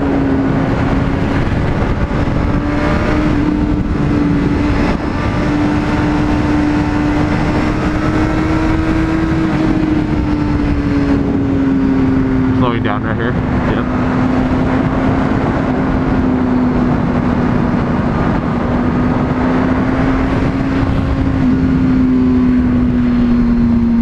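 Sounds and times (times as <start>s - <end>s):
motorcycle engine running: 0.0s - 24.0s
wind noise: 0.0s - 24.0s.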